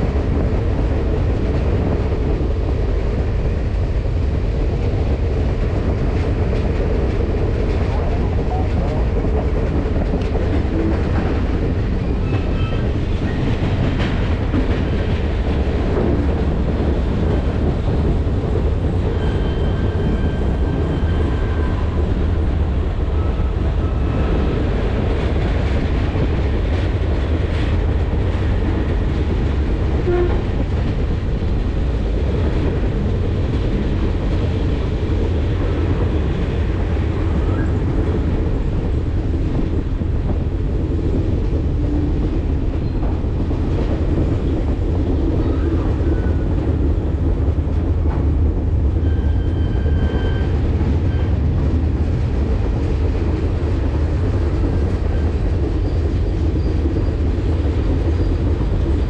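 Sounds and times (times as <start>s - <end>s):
train rumbling and rattling on rails: 0.0s - 59.0s.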